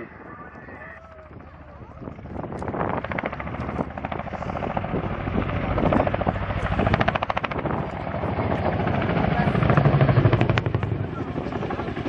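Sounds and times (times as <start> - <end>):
helicopter rotor beat: 0.0 - 12.0.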